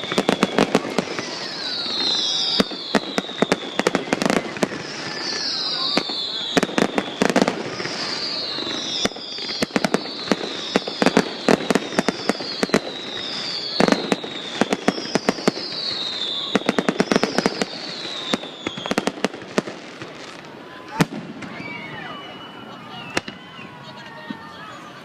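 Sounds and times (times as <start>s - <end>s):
high falling whistle: 0.0s - 19.0s, 21.4s - 24.7s
fireworks bangs: 0.0s - 25.0s.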